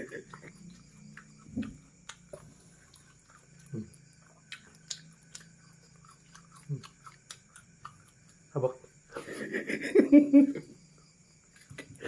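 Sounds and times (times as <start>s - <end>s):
people chewing: 0.0s - 9.9s, 10.5s - 12.0s
faint steady hum: 0.0s - 12.0s.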